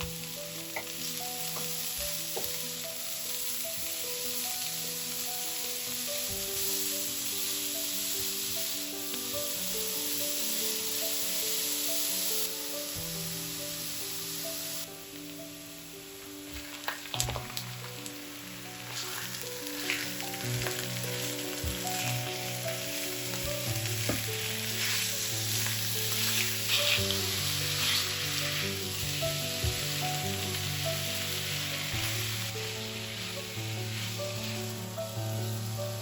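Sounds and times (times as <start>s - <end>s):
background music with held notes: 0.0s - 36.0s
food sizzling in a pan: 0.0s - 36.0s.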